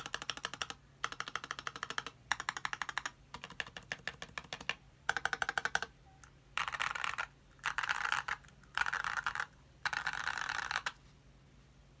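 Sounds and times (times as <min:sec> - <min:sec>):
mechanical keyboard typing: 0:00.0 - 0:05.9, 0:06.6 - 0:11.0.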